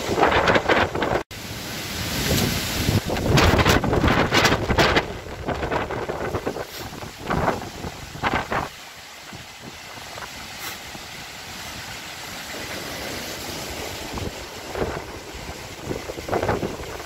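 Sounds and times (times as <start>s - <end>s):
storm wind buffeting microphone: 0.0s - 1.3s, 2.0s - 17.0s.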